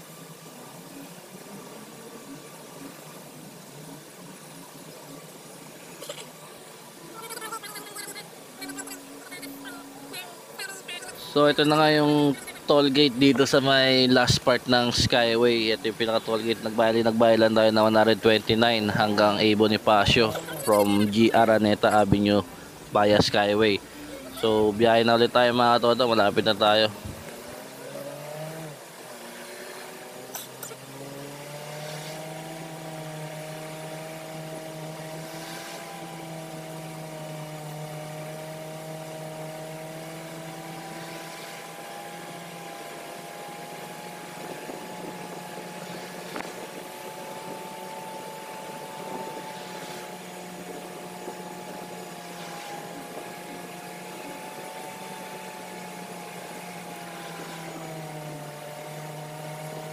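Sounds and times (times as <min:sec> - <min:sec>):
car cabin droning hum: 0:00.0 - 0:59.9
road hiss: 0:00.0 - 0:59.9.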